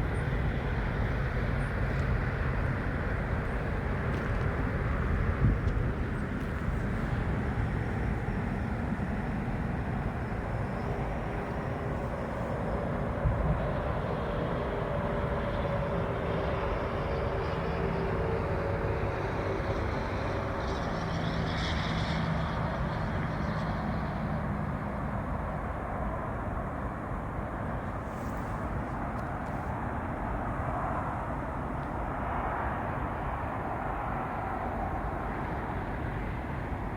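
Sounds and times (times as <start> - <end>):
distant traffic hum: 0.0 - 36.9
outdoor rumble and hiss: 0.0 - 36.9.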